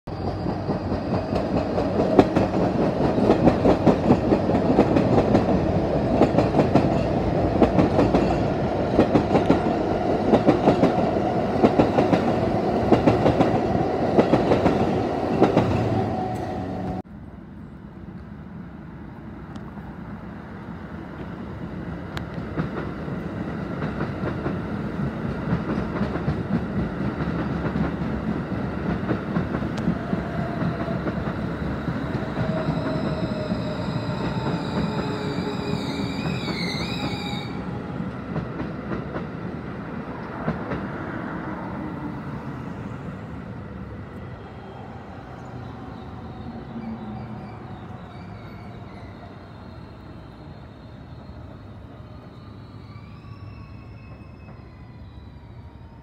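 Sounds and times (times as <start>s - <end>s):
distant train: 0.1s - 56.0s.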